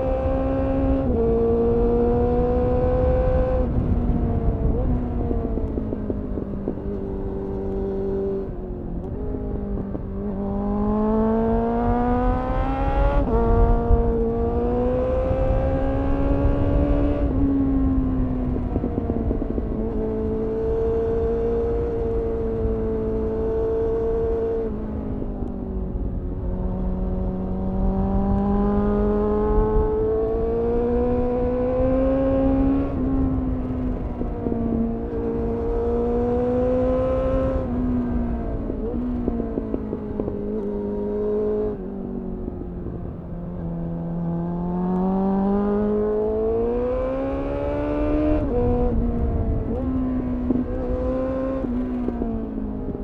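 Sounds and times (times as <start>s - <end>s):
wind rush on microphone: 0.0s - 44.4s, 45.2s - 53.0s
motorcycle engine revving: 0.0s - 53.0s.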